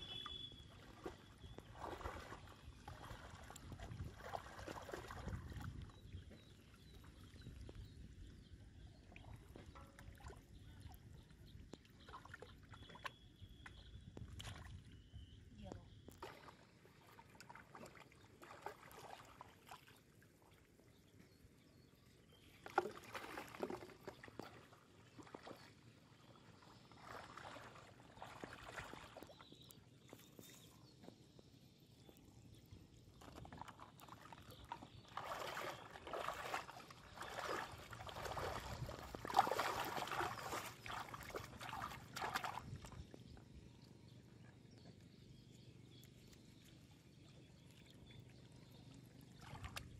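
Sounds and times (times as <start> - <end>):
water splashing and sloshing: 0.0 - 15.0, 15.7 - 21.1, 22.3 - 31.1, 32.8 - 43.5, 46.1 - 49.9.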